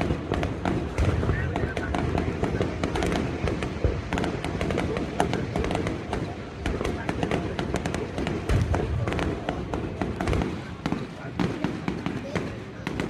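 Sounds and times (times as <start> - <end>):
firework boom: 0.0 - 12.1
fireworks crackling and popping: 0.0 - 13.0.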